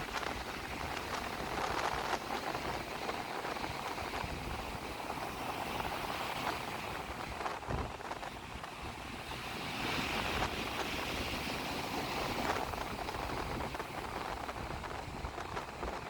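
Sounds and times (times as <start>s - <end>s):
sea surf breaking and splashing: 0.0s - 16.0s
wind buffeting microphone: 0.0s - 16.0s.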